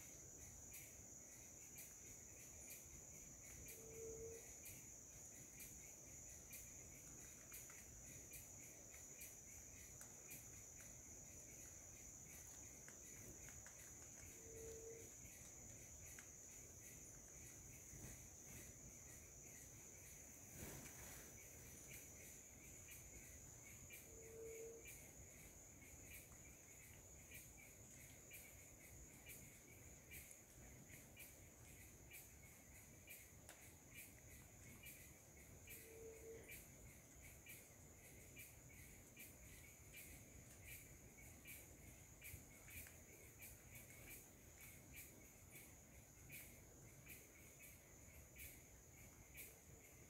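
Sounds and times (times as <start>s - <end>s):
high-pitched insect chirring: 0.0s - 20.4s, 21.3s - 50.0s.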